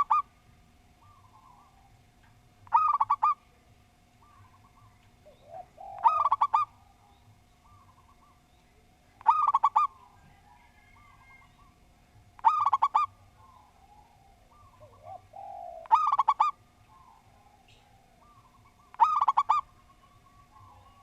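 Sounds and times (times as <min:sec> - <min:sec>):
dove cooing: 0:00.0 - 0:00.3, 0:01.0 - 0:02.0, 0:02.6 - 0:03.5, 0:04.2 - 0:08.5, 0:09.2 - 0:21.0.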